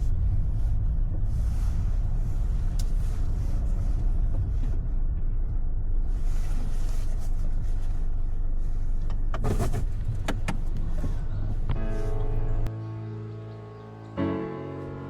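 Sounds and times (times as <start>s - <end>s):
engine and road noise rumble: 0.0s - 12.8s.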